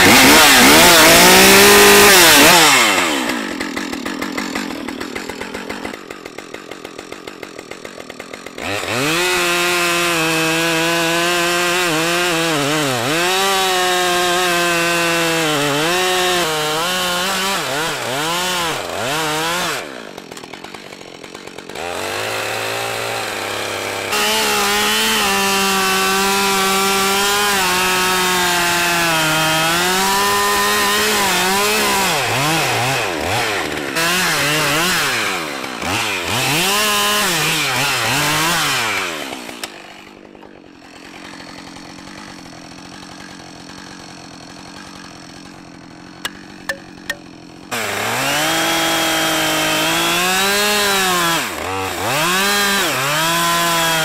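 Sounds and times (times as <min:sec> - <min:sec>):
chainsaw cutting wood: 0:00.0 - 0:54.0
chainsaw idling: 0:00.0 - 0:54.0.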